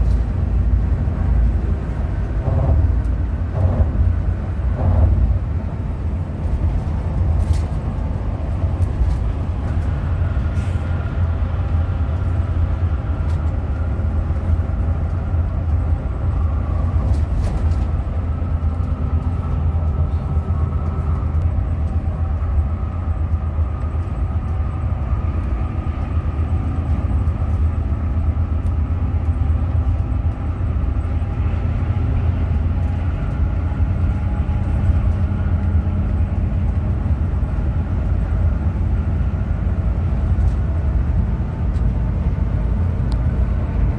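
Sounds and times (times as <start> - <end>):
coach engine and road rumble: 0.0 - 43.9.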